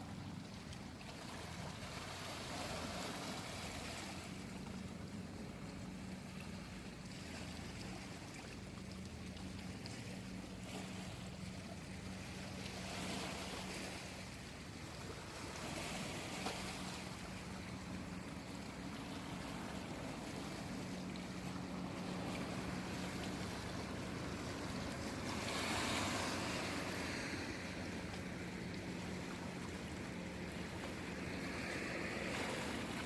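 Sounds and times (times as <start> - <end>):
sea waves washing in: 0.0 - 33.0.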